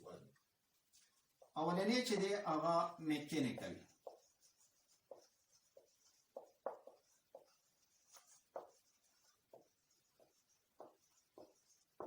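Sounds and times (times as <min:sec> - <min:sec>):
pen strokes on paper: 0:00.7 - 0:12.0.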